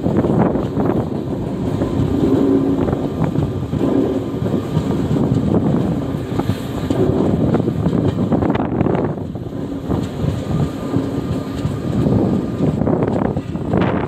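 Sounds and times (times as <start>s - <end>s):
train wheels rumbling on rails: 0.0s - 14.0s
wind buffeting microphone: 0.0s - 14.0s.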